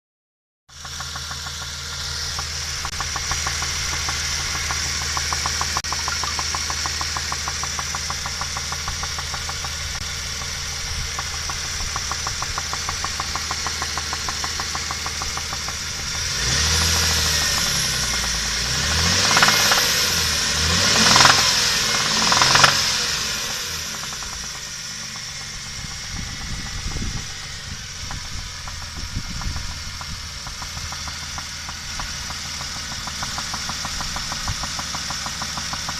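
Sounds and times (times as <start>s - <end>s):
car engine idling with knock: 0.7s - 20.4s, 21.0s - 35.9s
engine revving: 0.7s - 35.9s.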